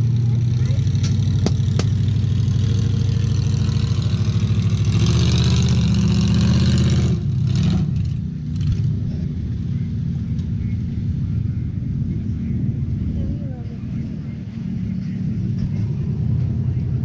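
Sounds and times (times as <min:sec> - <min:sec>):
vee eight engine revving: 0:00.0 - 0:17.0.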